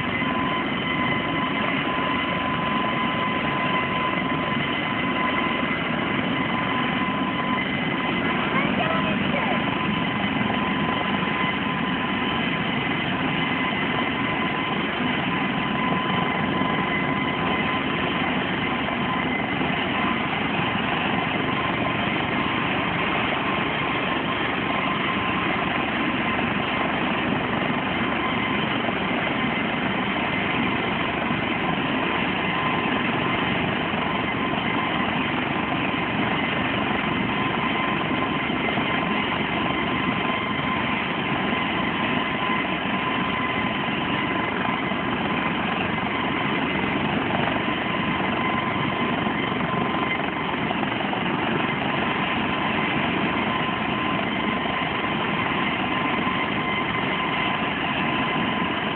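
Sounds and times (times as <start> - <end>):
helicopter engine and rotor noise: 0.0 - 58.9
thin steady whine: 0.0 - 58.9.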